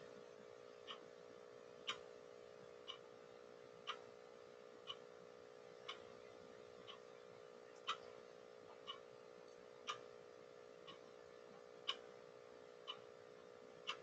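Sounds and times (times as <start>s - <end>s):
faint regular ticking: 0.0s - 14.0s
steady low hum: 0.0s - 14.0s.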